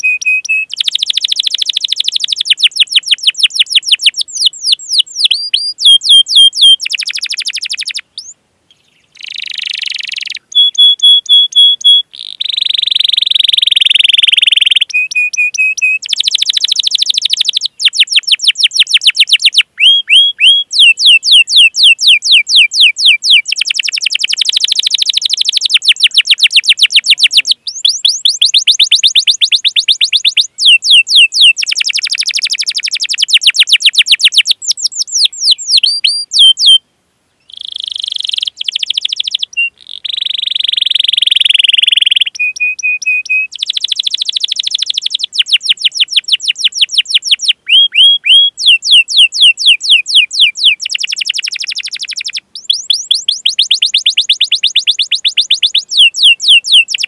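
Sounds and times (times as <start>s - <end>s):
canary singing: 0.0s - 36.8s, 37.4s - 57.0s.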